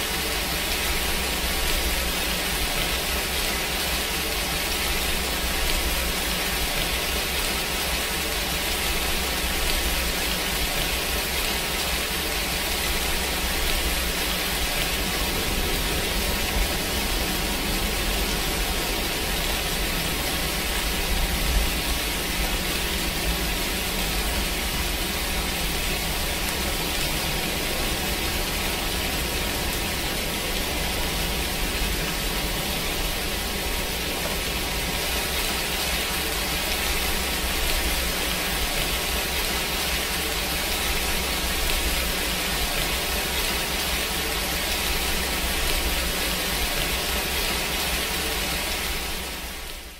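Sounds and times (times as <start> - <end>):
steady rain-like hiss: 0.0 - 49.9.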